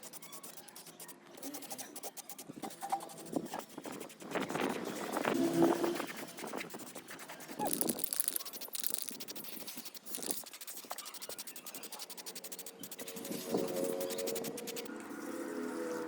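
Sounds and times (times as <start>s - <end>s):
scraping against a hard surface: 0.0s - 14.9s.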